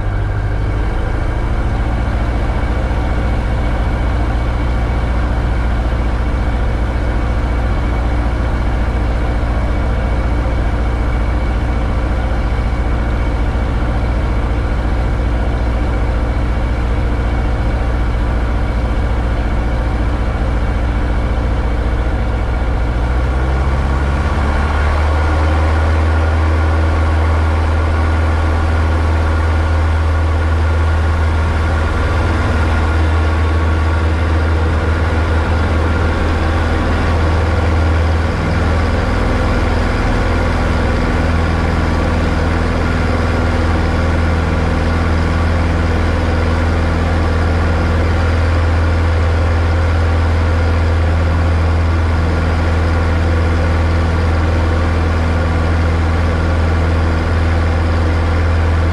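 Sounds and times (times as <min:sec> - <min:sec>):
light aircraft engine idling: 0:00.0 - 0:58.9.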